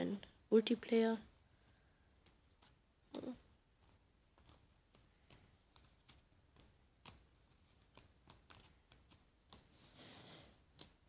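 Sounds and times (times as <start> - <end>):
cardboard cards ticking: 1.6 - 11.0
cards rustling: 1.6 - 11.0.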